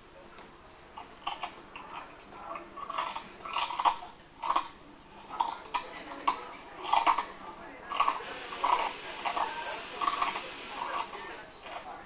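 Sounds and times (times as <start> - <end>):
chewing food: 0.3 - 12.0.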